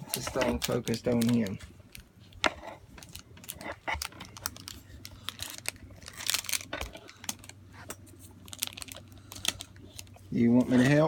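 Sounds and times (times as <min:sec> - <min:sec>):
wrapper crinkling and crackling: 0:00.0 - 0:11.0.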